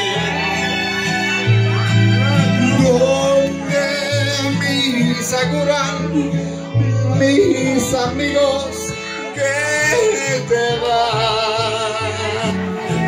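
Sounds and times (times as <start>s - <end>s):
bass line: 0.0s - 13.0s
karaoke ballad backing track: 0.0s - 13.0s.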